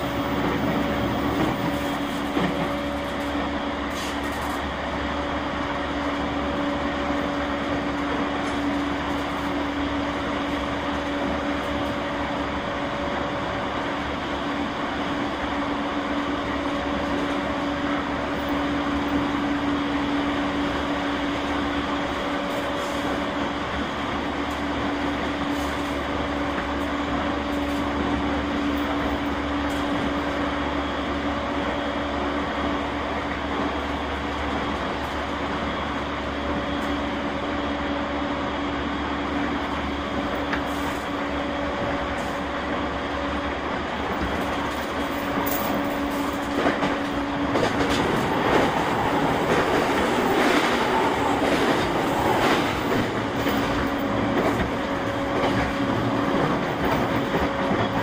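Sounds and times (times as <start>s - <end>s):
steady train hum: 0.0s - 58.0s
wheels rumbling on rail: 0.0s - 58.0s.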